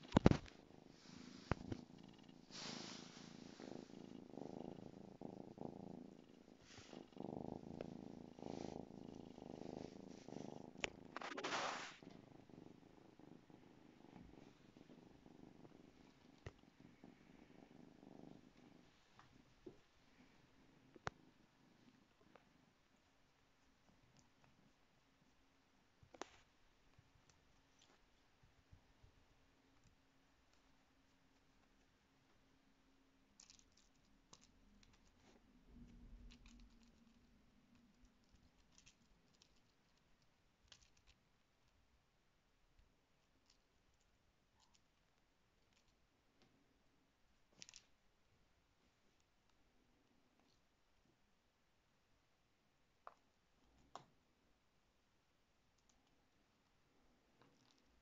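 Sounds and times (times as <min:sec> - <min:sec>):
kitten purring: 0:00.0 - 0:54.8, 0:55.4 - 0:58.0.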